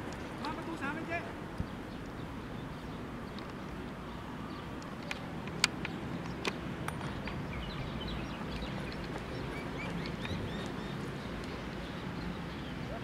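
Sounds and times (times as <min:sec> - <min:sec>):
open-air background: 0:00.0 - 0:13.0.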